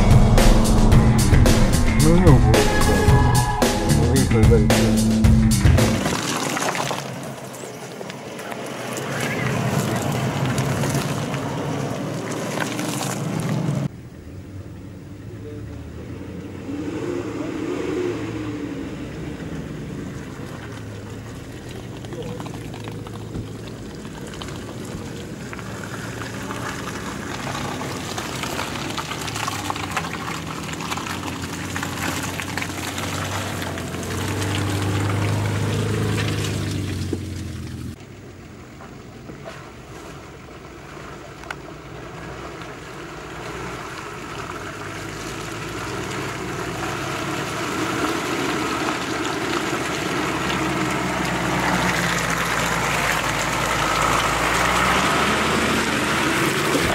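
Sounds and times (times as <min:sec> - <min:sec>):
off-road vehicle engines under load: 0:00.0 - 0:56.9
mud and water sloshing under tyres: 0:05.8 - 0:13.9, 0:16.7 - 0:56.9.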